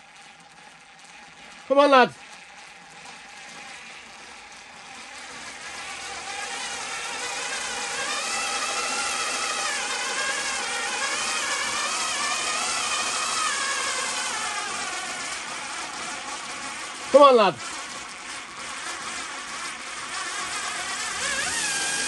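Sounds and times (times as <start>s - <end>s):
screwdriver motor whining under load: 0.0s - 22.0s.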